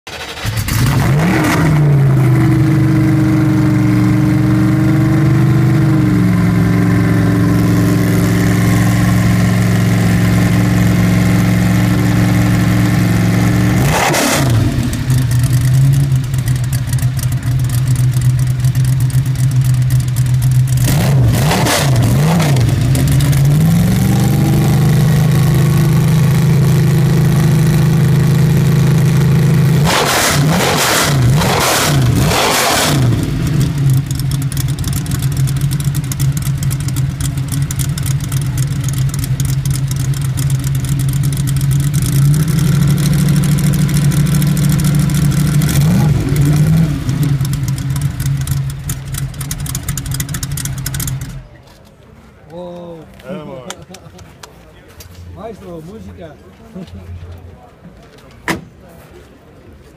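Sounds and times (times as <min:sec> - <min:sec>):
racing car engine idling and revving: 0:00.1 - 0:51.6.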